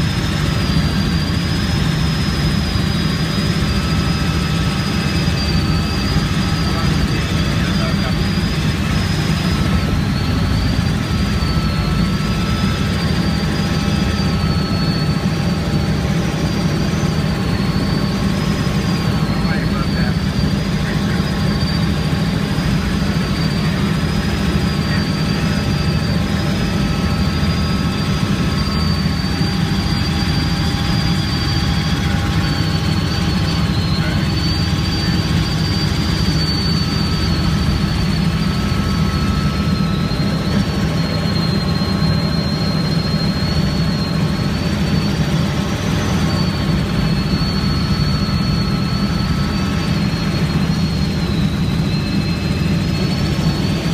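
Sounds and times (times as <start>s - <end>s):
helicopter rotor and engine drone: 0.0s - 53.9s
high whine: 0.0s - 53.9s.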